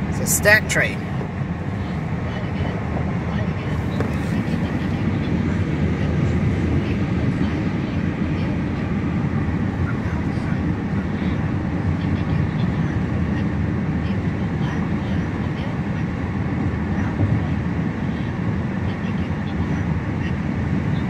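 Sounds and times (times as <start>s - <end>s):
car cabin road noise: 0.0s - 21.0s
freight train running: 0.0s - 21.0s.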